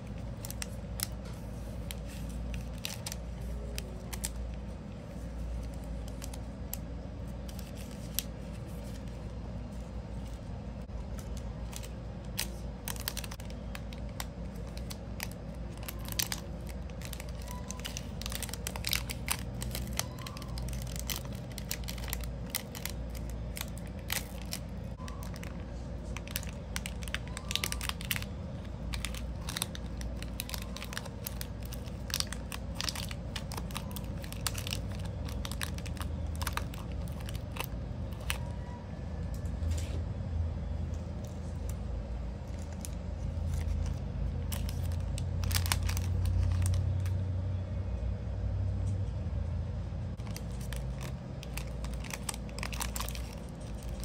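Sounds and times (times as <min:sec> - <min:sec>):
cellophane bag crinkling: 0:00.0 - 0:38.8, 0:41.2 - 0:47.2, 0:50.2 - 0:54.0.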